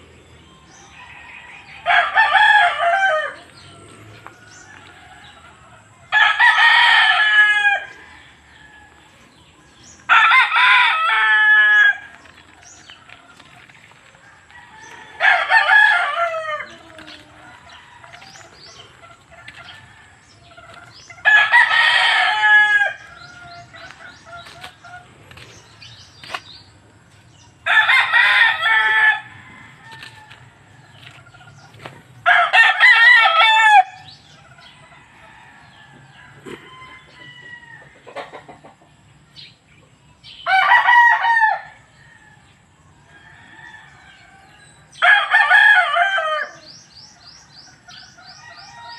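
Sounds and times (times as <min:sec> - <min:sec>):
roosters crowing: 0:00.0 - 0:39.2, 0:40.2 - 0:48.9.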